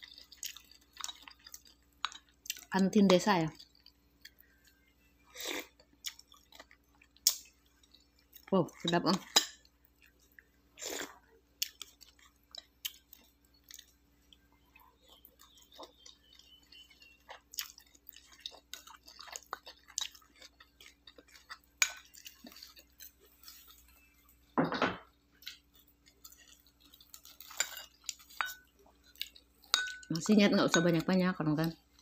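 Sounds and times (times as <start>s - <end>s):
person chewing: 0.0s - 2.7s, 3.6s - 30.2s.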